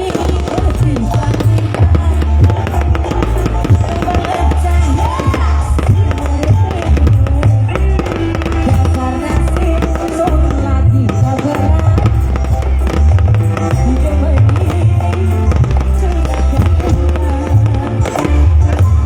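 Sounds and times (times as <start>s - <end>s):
fireworks banging and crackling: 0.0s - 19.0s
heavy bass beat: 0.0s - 19.0s
live band music: 0.0s - 19.0s.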